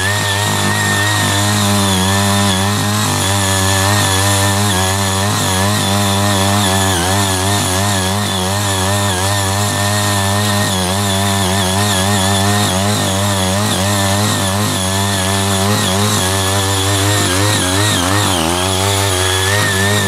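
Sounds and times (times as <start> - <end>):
rotary tines breaking up soil: 0.0 - 20.0
tiller engine running under load: 0.0 - 20.0.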